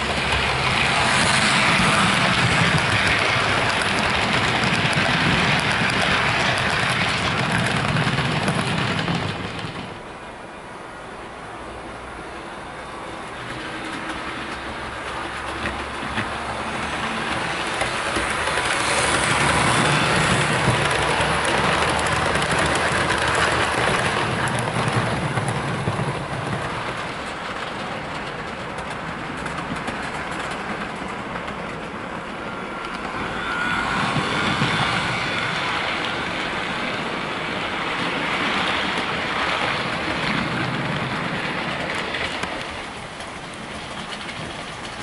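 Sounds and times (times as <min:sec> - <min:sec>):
model train wheels clattering on track: 0:00.0 - 0:10.0, 0:13.4 - 0:33.4, 0:38.3 - 0:45.0.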